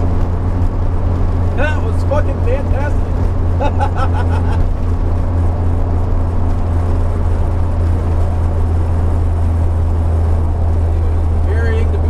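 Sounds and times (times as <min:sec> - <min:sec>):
car engine cruising: 0:00.0 - 0:12.0
road noise: 0:00.0 - 0:12.0.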